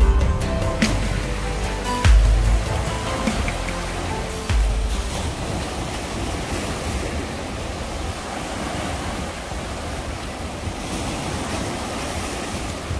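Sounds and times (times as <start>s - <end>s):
sea waves breaking on rocks: 1.0s - 12.9s
wind rumbling on microphone: 2.3s - 12.9s.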